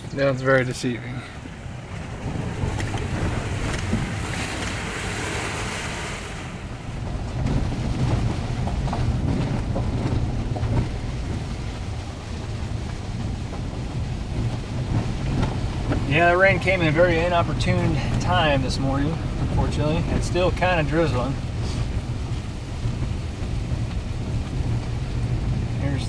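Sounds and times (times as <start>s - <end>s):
vehicle engine and road rumble: 0.0s - 26.0s
water rushing under vehicle: 0.0s - 26.0s.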